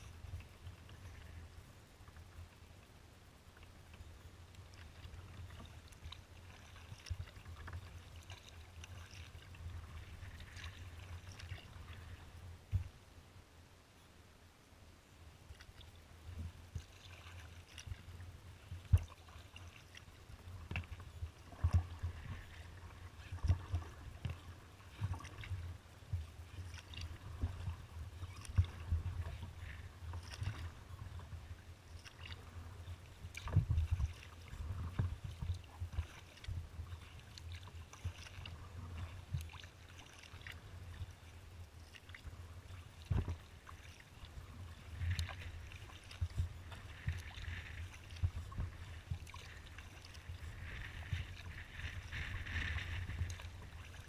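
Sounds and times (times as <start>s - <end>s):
low rumble of water and wind: 0.0s - 54.0s
paddle splashing in water: 3.6s - 12.9s, 15.5s - 54.0s.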